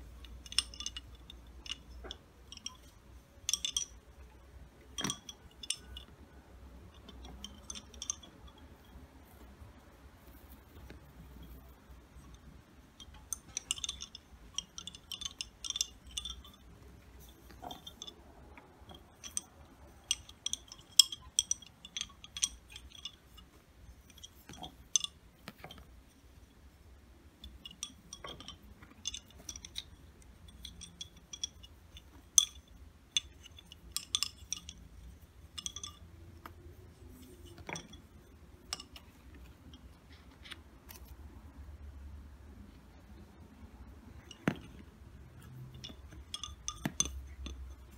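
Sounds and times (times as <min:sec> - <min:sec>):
wooden bobbins clacking: 0:00.0 - 0:41.5, 0:44.0 - 0:47.9.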